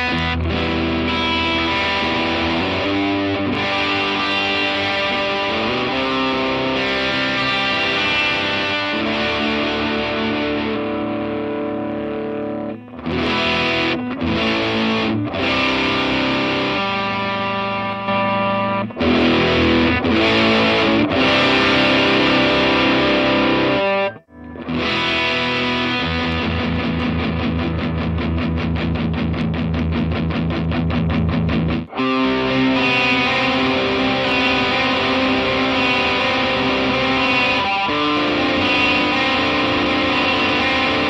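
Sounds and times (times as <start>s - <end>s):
distorted electric guitar: 0.0s - 41.0s.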